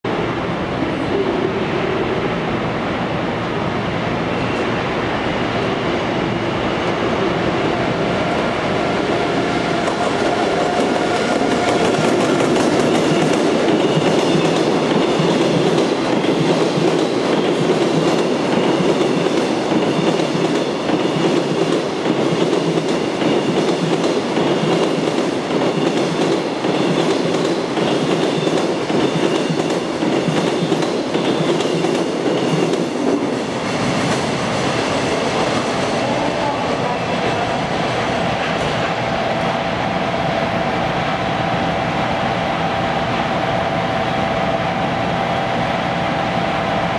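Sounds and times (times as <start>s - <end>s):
steady locomotive whine: 0.1s - 46.9s.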